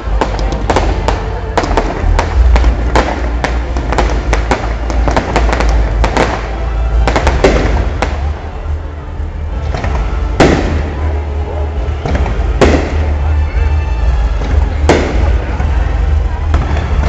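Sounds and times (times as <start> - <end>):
fireworks crackling bangs: 0.0 - 8.8, 9.5 - 17.0
loud firework bursts: 0.0 - 8.9, 9.5 - 17.0.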